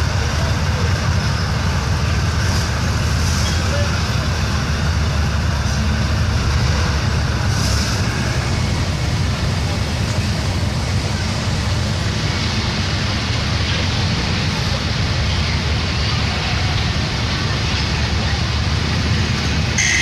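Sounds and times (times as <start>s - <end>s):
half-track vehicle engine rumbling: 0.0s - 20.0s.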